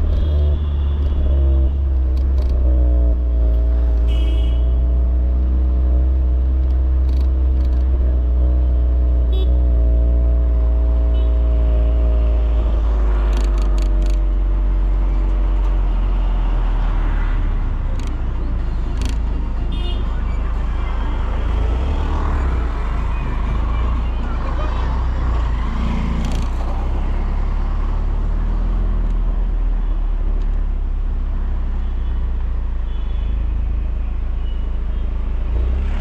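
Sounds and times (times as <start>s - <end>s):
car engine and exhaust droning: 0.0s - 36.0s
road noise rumbling: 0.0s - 36.0s.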